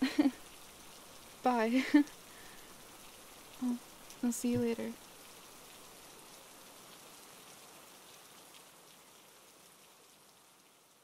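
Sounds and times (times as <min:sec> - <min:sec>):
faint steady rain: 0:00.0 - 0:11.0.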